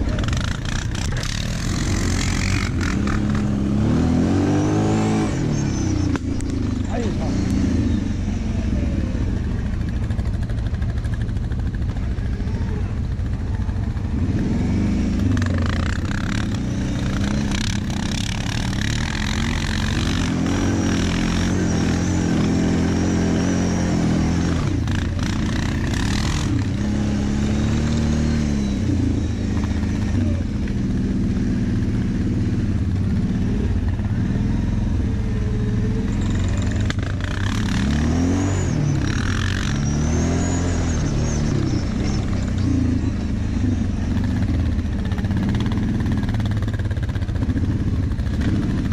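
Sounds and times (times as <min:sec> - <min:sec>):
quad engine revving: 0:00.0 - 0:48.9.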